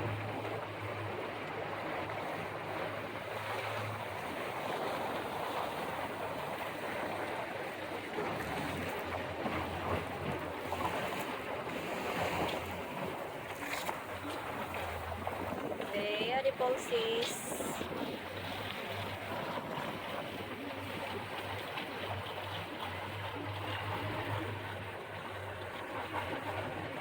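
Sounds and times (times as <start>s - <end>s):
water rushing and splashing: 0.0s - 27.0s.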